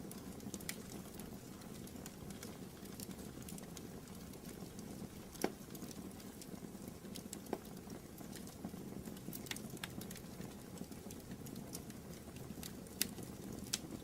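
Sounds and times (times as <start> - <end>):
fire pops: 0.0 - 14.0
low rumble of flames: 0.0 - 14.0
wood fire crackling: 0.0 - 14.0.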